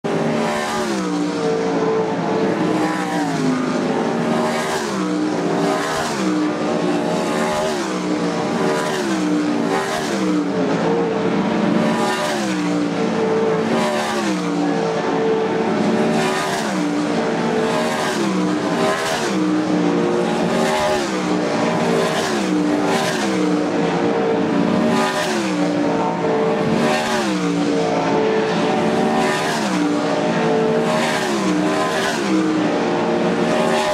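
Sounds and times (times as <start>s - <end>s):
blend of racing engines: 0.0s - 33.9s
race car engines passing: 0.0s - 33.9s.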